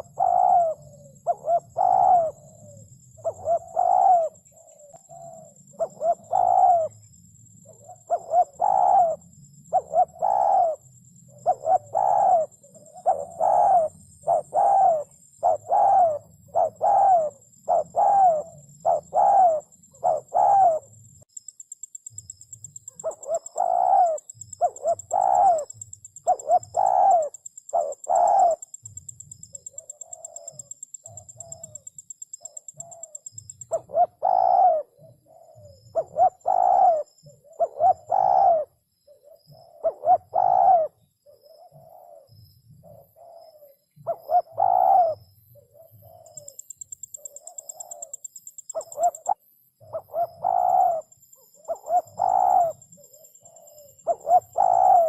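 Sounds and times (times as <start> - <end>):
dove cooing: 0.0 - 21.0, 22.6 - 55.0
faint high-pitched whine: 0.0 - 55.0.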